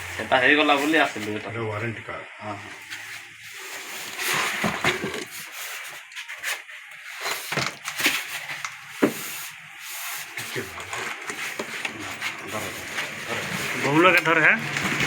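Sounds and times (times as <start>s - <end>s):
paper and packaging rustling: 0.0s - 1.9s, 2.5s - 15.0s.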